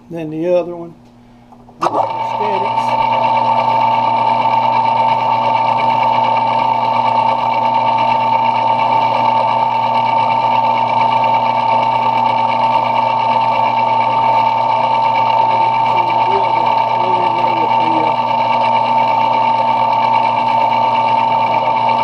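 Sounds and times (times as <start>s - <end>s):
metal lathe high whine: 1.8s - 22.0s.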